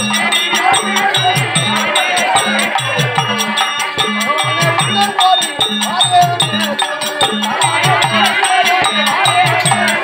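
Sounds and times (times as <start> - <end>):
jingling percussion: 0.0 - 10.0.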